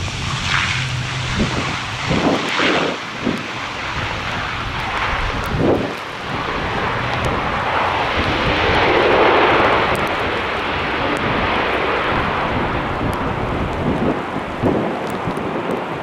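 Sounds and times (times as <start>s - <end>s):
turboprop engines roaring: 0.0s - 16.0s.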